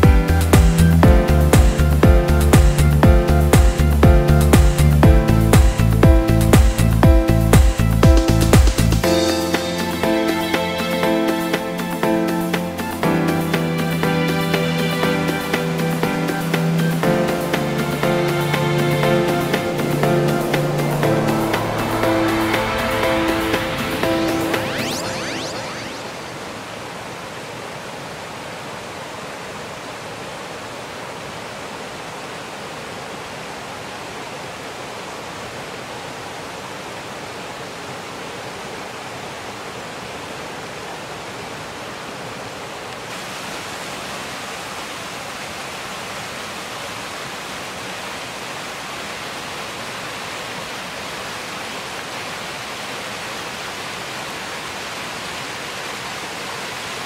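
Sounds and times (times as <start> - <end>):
creek rushing over rocks: 0.4 - 57.0.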